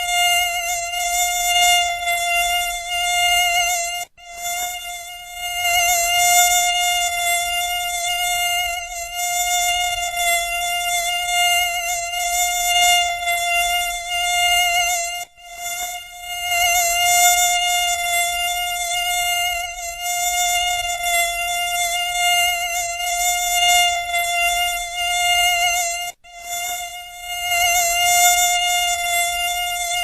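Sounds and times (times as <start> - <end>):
mosquito whine: 0.0 - 30.0.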